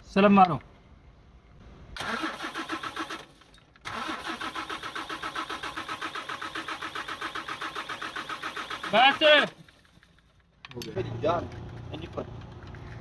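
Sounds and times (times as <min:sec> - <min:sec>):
diesel engine cranking on starter: 0:02.0 - 0:13.0.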